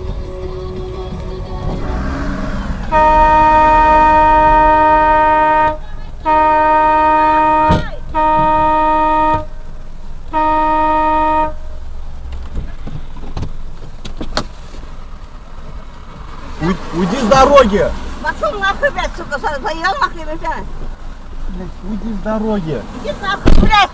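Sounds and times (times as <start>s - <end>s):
car horn honking: 0.0s - 13.6s, 16.5s - 20.8s, 21.7s - 23.9s
road noise: 0.0s - 23.9s.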